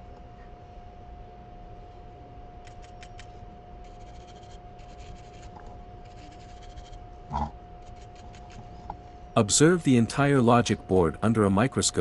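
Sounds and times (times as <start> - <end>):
thin steady hum: 0.0 - 12.0.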